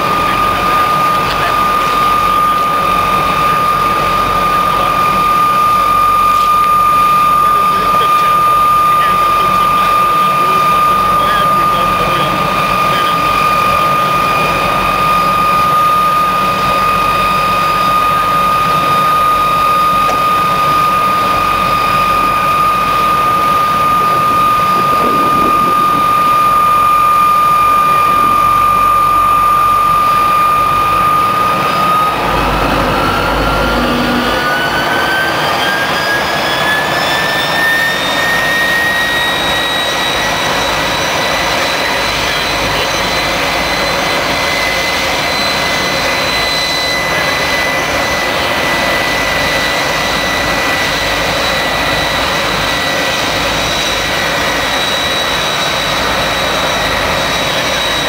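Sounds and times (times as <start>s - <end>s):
jet engine whine: 0.0s - 58.0s
rushing jet exhaust: 0.0s - 58.0s.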